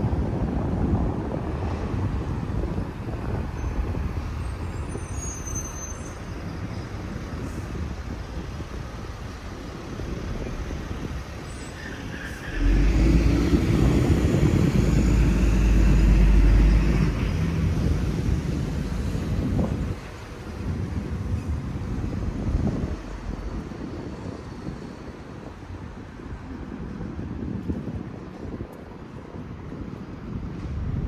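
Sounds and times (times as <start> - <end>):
heavy vehicle engine rumbling: 0.0 - 31.0
road traffic passing: 0.0 - 31.0.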